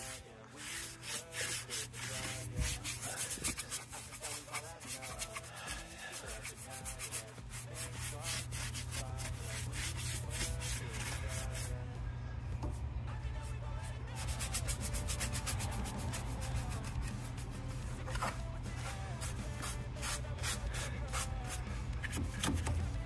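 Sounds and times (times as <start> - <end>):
brush scrubbing plastic parts: 0.0 - 11.7, 14.2 - 23.0
steady low hum: 0.0 - 23.0.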